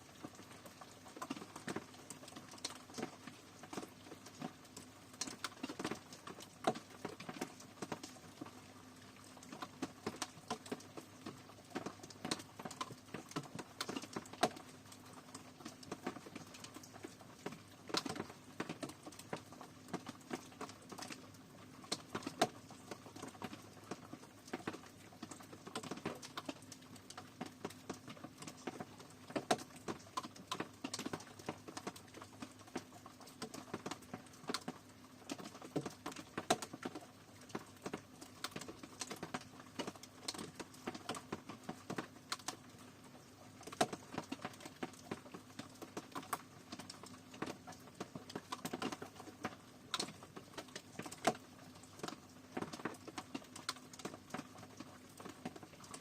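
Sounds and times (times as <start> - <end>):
faint steady hiss: 0.0 - 56.0
rain drops tapping: 0.0 - 56.0.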